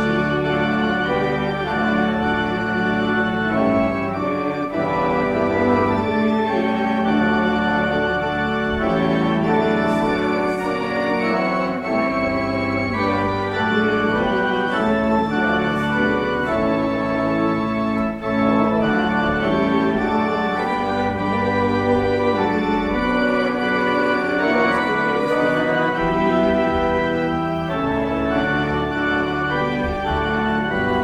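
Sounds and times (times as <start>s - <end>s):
organ chords: 0.0s - 31.0s.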